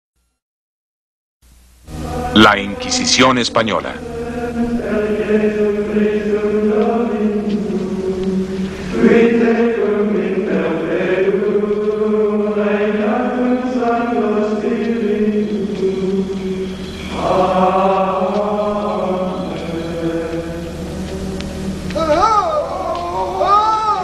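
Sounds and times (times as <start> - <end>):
men chanting plainchant: 2.0 - 24.0.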